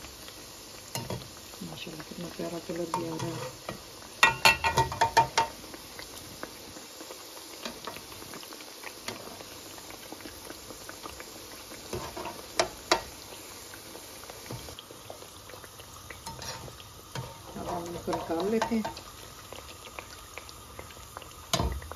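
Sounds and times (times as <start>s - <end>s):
dough deep-frying in oil: 0.0s - 21.9s.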